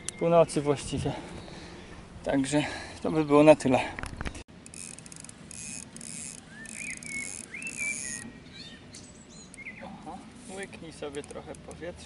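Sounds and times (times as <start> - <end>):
small birds singing: 0.0 - 4.5, 6.0 - 12.0.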